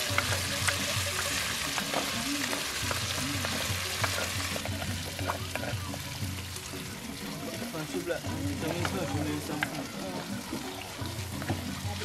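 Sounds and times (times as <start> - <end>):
stew sizzling in a pot: 0.0 - 12.0.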